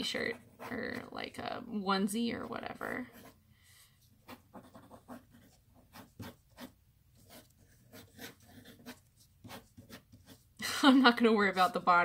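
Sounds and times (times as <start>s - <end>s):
pencil strokes on paper: 0.0s - 10.6s, 11.2s - 12.0s.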